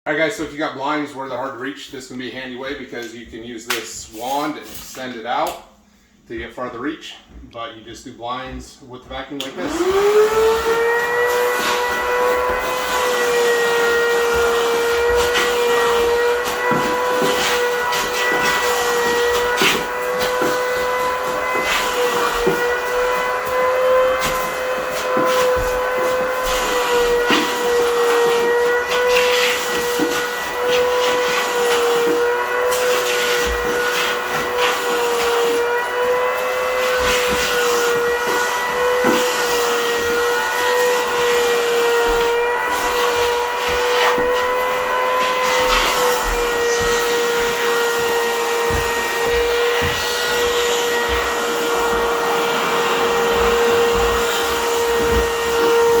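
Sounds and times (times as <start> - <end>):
vacuum cleaner running: 9.2 - 56.0.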